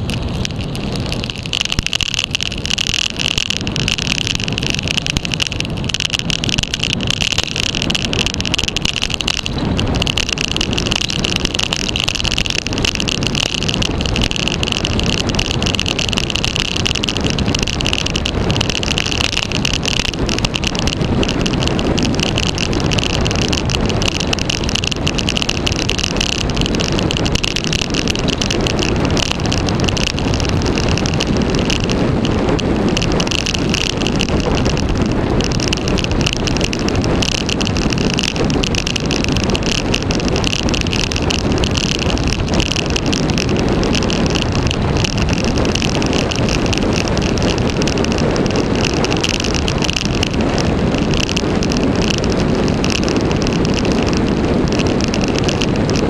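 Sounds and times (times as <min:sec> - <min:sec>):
bike tyres humming on tarmac: 0:00.0 - 0:56.0
wind rushing over microphone: 0:00.0 - 0:56.0.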